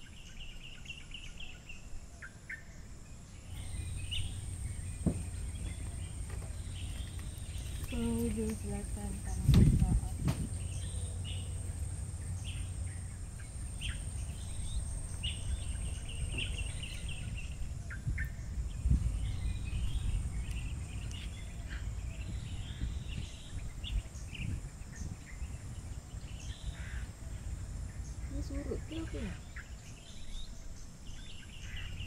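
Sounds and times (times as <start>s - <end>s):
birds chirping and calling: 3.4s - 32.0s
low rumble: 3.5s - 29.4s.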